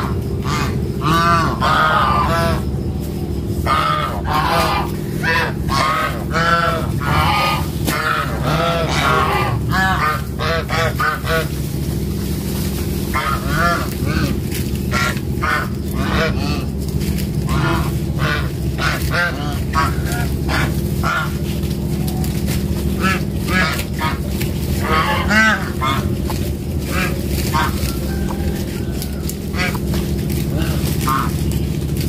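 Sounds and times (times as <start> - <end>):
fowl honking: 0.0 - 32.0
steady low hum: 0.0 - 32.0.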